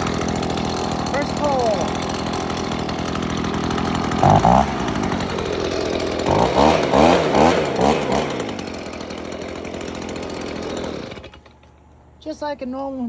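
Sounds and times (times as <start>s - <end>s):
string trimmer engine revving: 0.0s - 12.2s.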